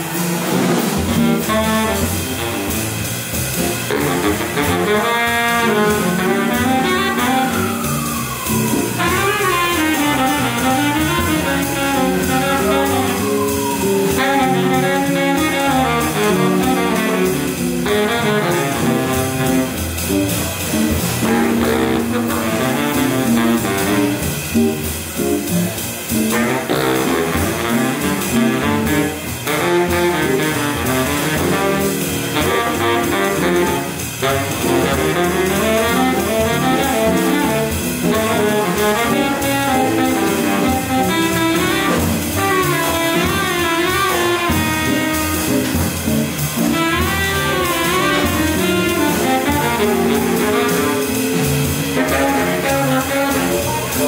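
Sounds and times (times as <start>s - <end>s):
baritone saxophone melody: 0.0s - 54.0s
jazz band playing: 0.0s - 54.0s.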